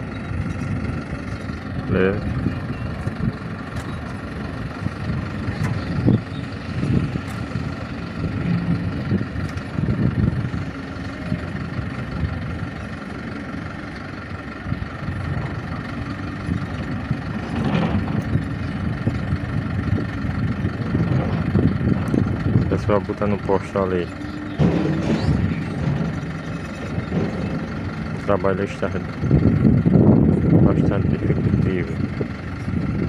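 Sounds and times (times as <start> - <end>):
heavy machinery engine running: 0.0 - 33.0.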